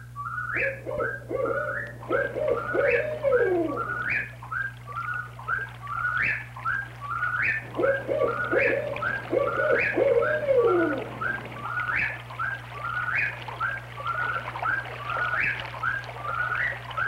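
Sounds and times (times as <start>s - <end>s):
owl hooting: 0.2s - 17.0s.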